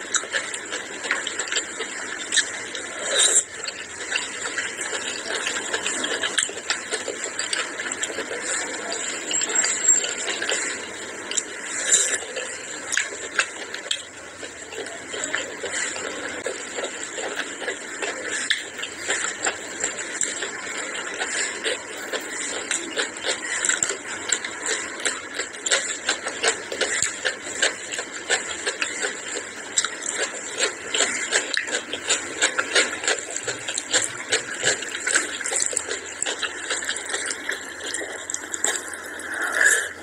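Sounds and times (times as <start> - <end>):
chewing and mouth sounds: 0.0 - 40.0.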